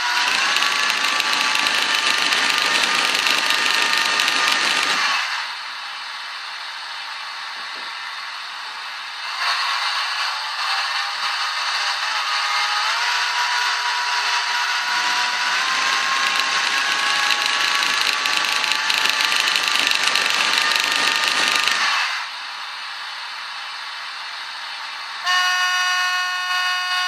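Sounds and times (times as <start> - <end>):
model locomotive whirring: 0.0 - 27.0.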